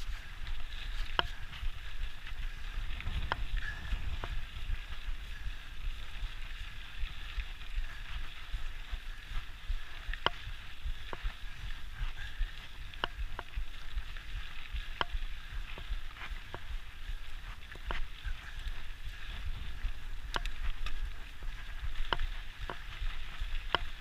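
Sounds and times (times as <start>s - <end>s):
bike ticks and rattles: 0.0s - 24.0s
tyres crunching on dirt: 0.0s - 24.0s
wind noise on microphone: 0.0s - 24.0s.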